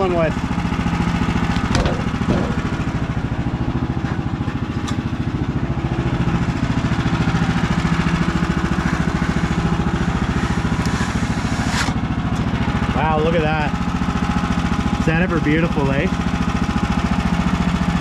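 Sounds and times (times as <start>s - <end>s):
gas engine idling: 0.0s - 18.0s.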